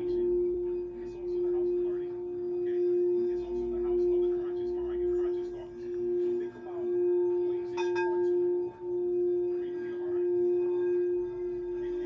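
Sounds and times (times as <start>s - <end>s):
singing bowl struck: 0.0s - 12.0s
singing bowl tone: 0.0s - 12.0s.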